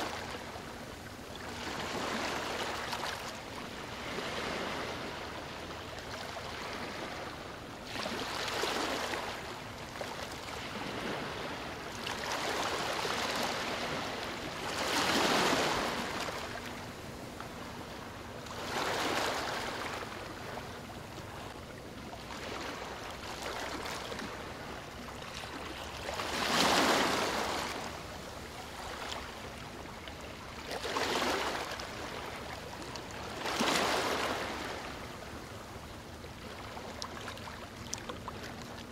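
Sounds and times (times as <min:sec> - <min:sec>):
small waves sloshing: 0:00.0 - 0:38.9.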